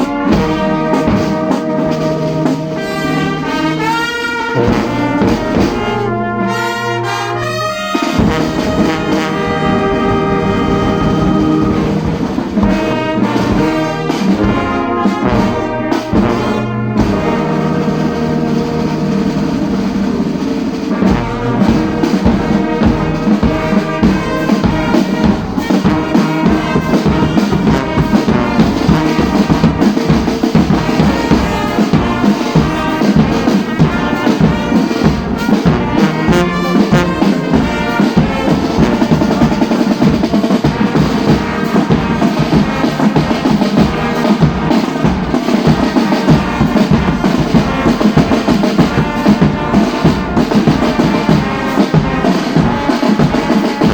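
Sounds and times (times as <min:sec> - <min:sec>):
brass band playing: 0:00.0 - 0:53.9
drums beating steady rhythm: 0:00.0 - 0:53.9.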